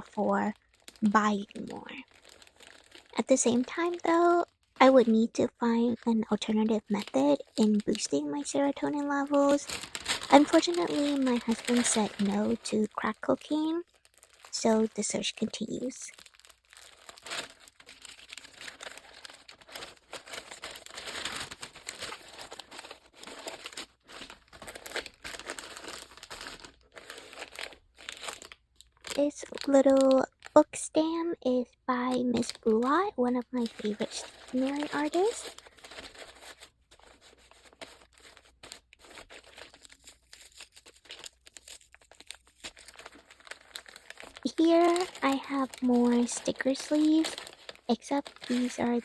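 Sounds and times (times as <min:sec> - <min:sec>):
packaging crinkling: 0:00.0 - 0:30.6, 0:32.1 - 0:49.0.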